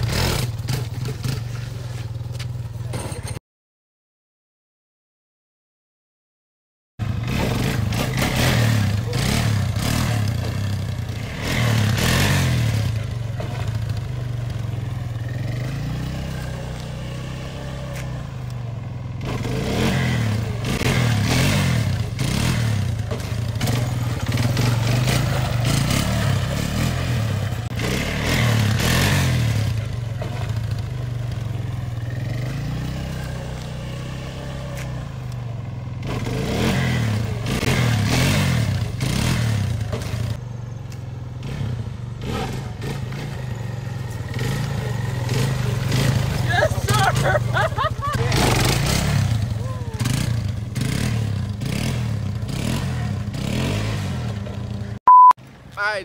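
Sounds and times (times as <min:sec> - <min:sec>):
atv engine revving: 0:00.0 - 0:03.4, 0:07.0 - 0:55.0.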